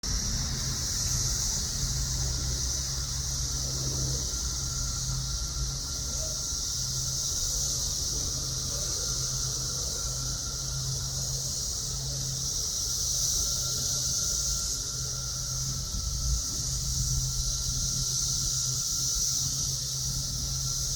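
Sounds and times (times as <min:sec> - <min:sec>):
cicadas buzzing: 0:00.0 - 0:20.9
low hum: 0:00.0 - 0:20.9.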